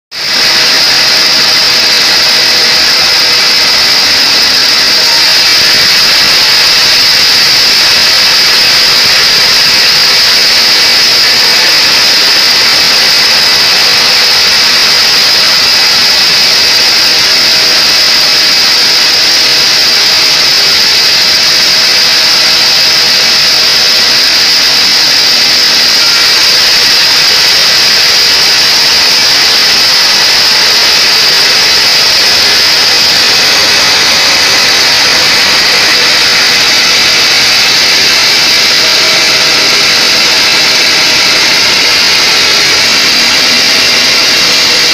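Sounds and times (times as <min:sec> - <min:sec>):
band saw cutting a log: 0:00.1 - 0:44.9.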